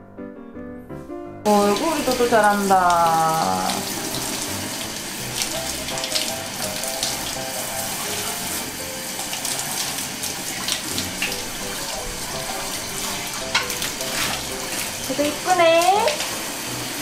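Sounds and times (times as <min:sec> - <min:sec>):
light background music: 0:00.0 - 0:17.0
shower spray splashing: 0:01.5 - 0:17.0.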